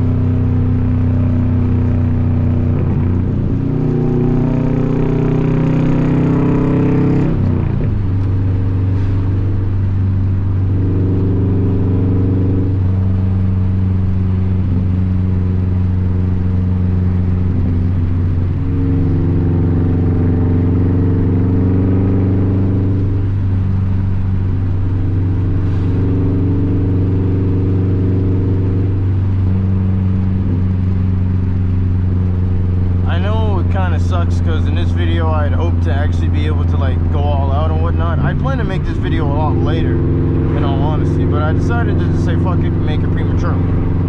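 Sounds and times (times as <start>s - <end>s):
car exhaust droning: 0.0s - 44.0s.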